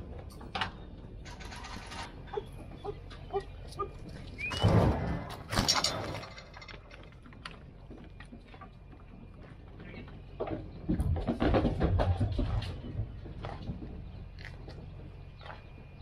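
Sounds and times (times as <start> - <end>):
cattle hooves clattering on ramp: 0.0 - 16.0.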